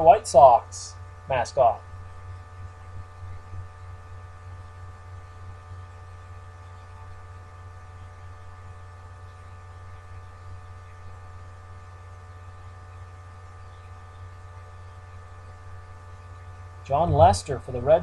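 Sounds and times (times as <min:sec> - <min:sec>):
electrical mains hum: 0:00.0 - 0:18.0
faint high whining tones: 0:00.0 - 0:18.0.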